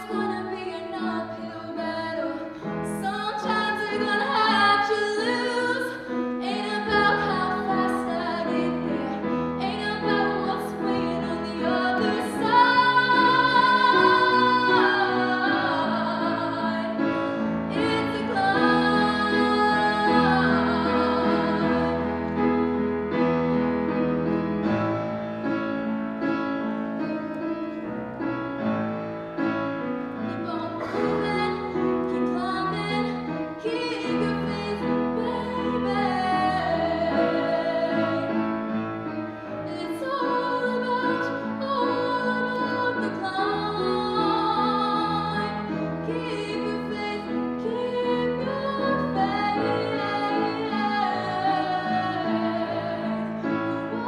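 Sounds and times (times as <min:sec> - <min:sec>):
soprano singing with vibrato: 0:00.0 - 0:22.4, 0:30.3 - 0:38.7, 0:39.6 - 0:54.0
grand piano: 0:00.0 - 0:54.0.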